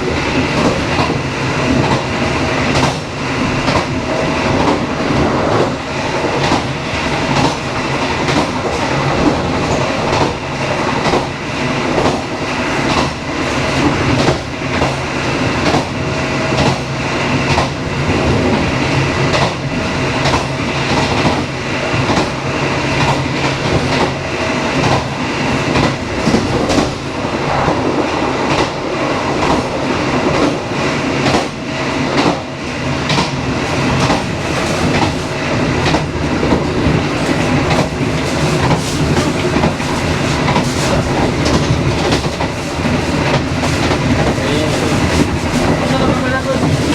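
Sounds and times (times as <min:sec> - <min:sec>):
train carriages rumbling: 0:00.0 - 0:46.9.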